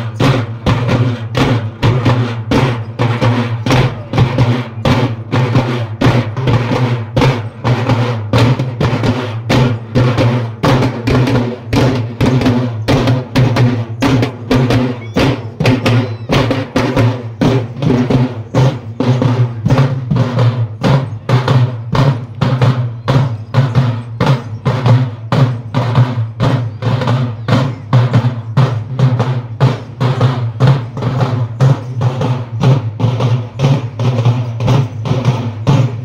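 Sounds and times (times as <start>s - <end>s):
fast folk drumming: 0.0s - 36.0s.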